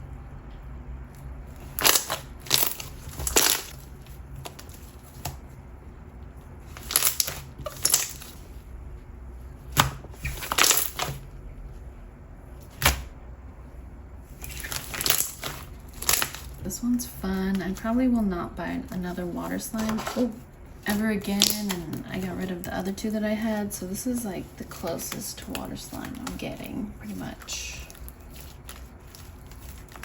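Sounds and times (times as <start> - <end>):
slime squelching: 1.0 - 11.8, 14.1 - 30.0.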